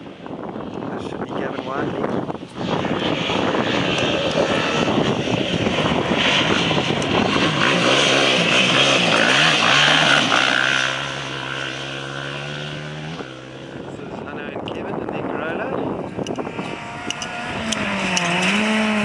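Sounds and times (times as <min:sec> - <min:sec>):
quad bike engine revving: 0:01.0 - 0:14.8, 0:15.8 - 0:19.0.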